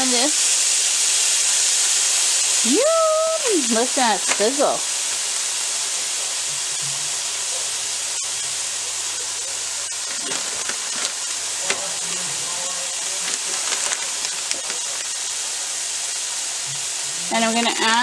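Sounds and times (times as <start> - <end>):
oil popping and crackling: 0.0 - 18.0
vegetables sizzling in oil: 0.0 - 18.0.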